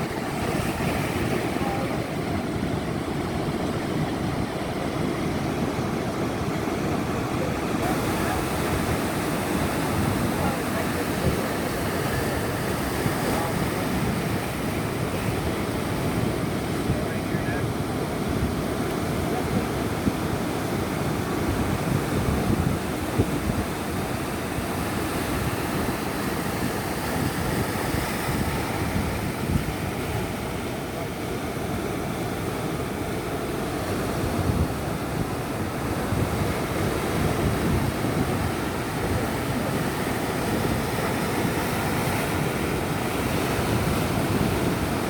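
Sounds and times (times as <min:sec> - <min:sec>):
wind rumbling on microphone: 0:00.0 - 0:31.5, 0:32.2 - 0:45.0
waves breaking: 0:00.0 - 0:45.0.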